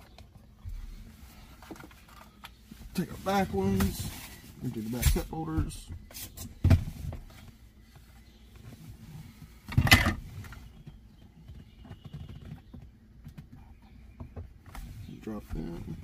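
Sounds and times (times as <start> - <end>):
faint rubbing and rustling: 0.7 - 16.0.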